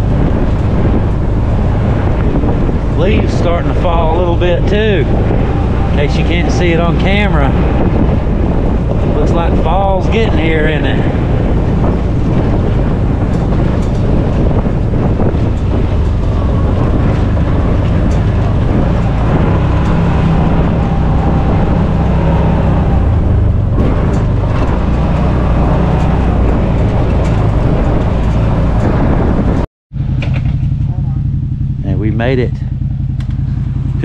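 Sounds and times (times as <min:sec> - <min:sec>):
vehicle knocks and rattles: 0:00.0 - 0:31.8, 0:32.7 - 0:34.0
vehicle engine droning: 0:00.0 - 0:34.0.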